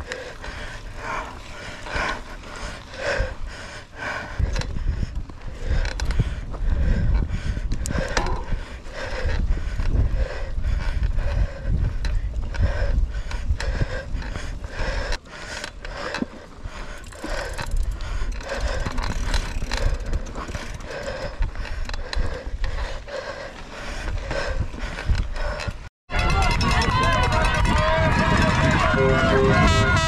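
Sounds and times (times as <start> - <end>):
mountain bike rattling and clicking: 0.0 - 30.0
wind rumble on microphone: 0.0 - 30.0.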